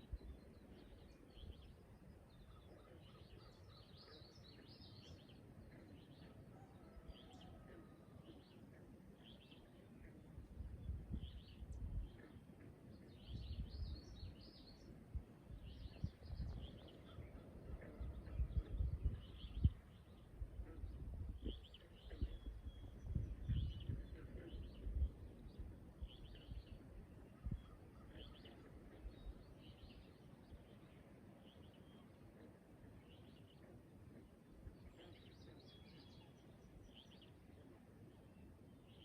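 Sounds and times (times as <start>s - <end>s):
songbirds chirping and singing: 0.0s - 39.0s.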